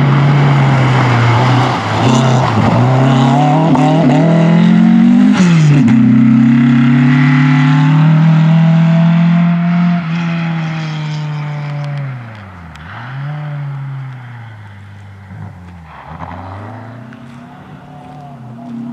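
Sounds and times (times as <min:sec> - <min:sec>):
rally car engine revving: 0:00.0 - 0:18.9.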